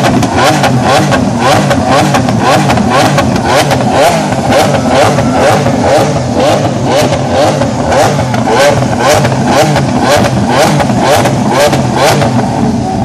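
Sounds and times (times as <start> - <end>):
car engine revving loud: 0.0 - 13.0.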